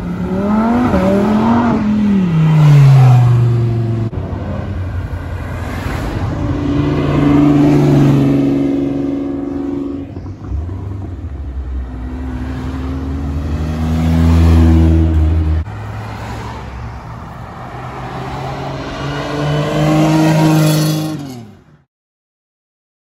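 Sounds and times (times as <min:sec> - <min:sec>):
car engines accelerating past: 0:00.0 - 0:21.6.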